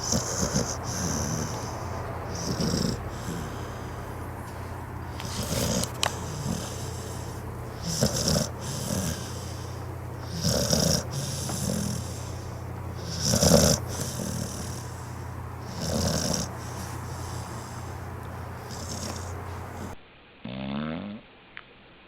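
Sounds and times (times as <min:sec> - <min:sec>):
dog breathing softly: 0:00.0 - 0:20.0
dog snoring: 0:00.0 - 0:21.2.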